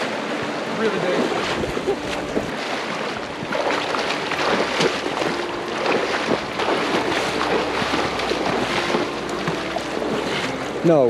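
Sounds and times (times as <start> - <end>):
small water splashes: 0.0 - 10.9
creek water rushing: 0.0 - 11.0.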